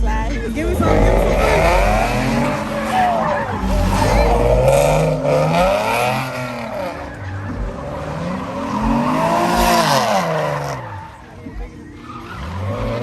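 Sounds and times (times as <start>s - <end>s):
car engine revving: 0.0s - 13.0s
tires squealing: 0.0s - 13.0s.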